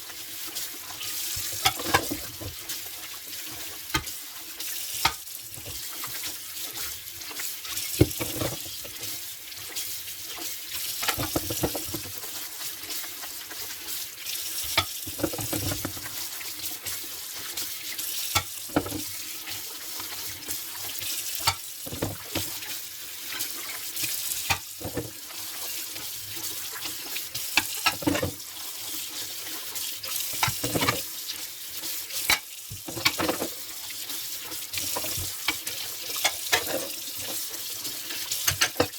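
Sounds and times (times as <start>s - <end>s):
running tap water: 0.0s - 38.9s.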